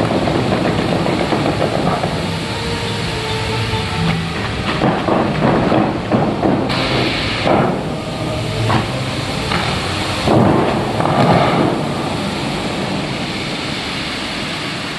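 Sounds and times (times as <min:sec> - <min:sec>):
fountain water rushing and splashing: 0:00.0 - 0:14.9.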